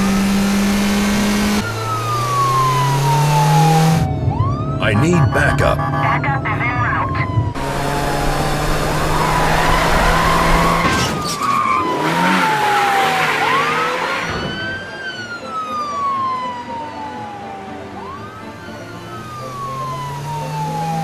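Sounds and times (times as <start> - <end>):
car engine: 0.0 - 21.0
police siren wailing: 0.0 - 21.0
road noise: 0.0 - 21.0.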